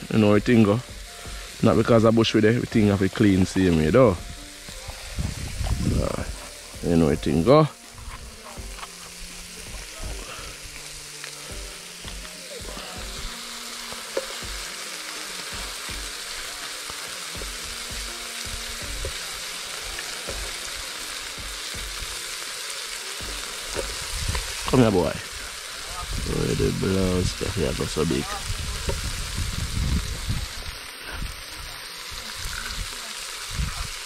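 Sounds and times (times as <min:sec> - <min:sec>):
vegetables sizzling in a pot: 0:00.0 - 0:34.0.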